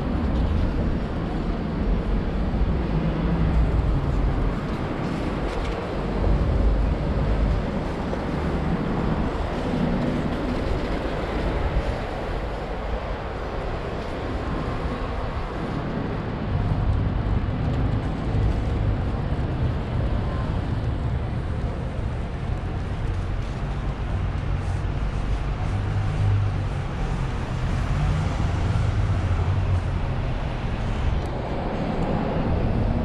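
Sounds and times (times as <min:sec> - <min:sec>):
traffic engines passing: 0:00.0 - 0:33.0
wind buffeting microphone: 0:00.0 - 0:33.0.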